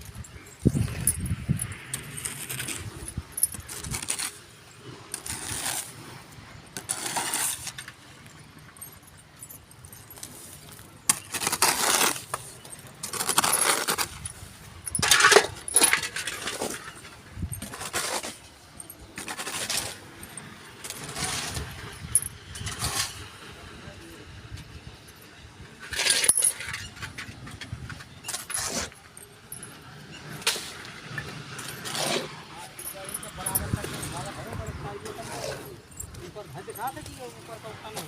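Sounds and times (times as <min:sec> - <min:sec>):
metal tools scraping on bricks: 0:00.0 - 0:23.3, 0:25.7 - 0:38.0.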